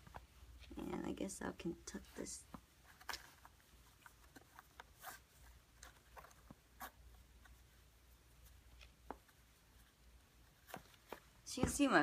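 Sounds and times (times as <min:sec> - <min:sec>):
hands rustling shoelaces: 0:02.0 - 0:12.0.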